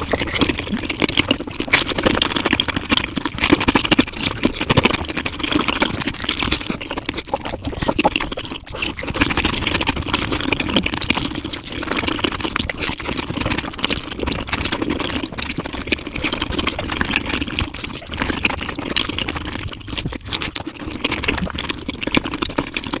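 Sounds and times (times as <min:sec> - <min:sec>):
sped-up chewing and mouth noises: 0:00.0 - 0:23.0.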